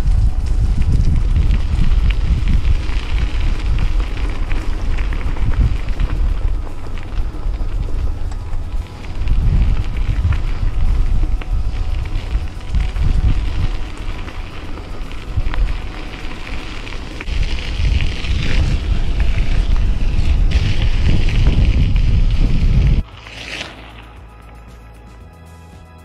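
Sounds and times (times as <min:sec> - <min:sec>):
wind buffeting microphone: 0:00.0 - 0:23.1
tyres crackling over rough ground: 0:00.0 - 0:25.2.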